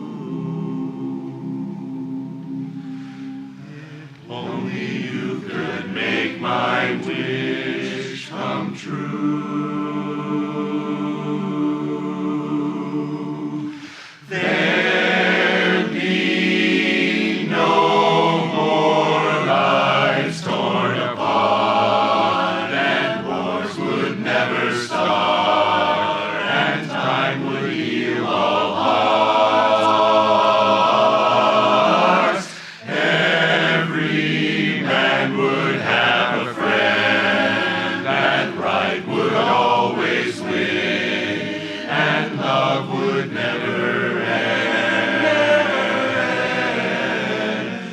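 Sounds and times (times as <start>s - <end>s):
chorus singing a cappella: 0.0s - 47.9s.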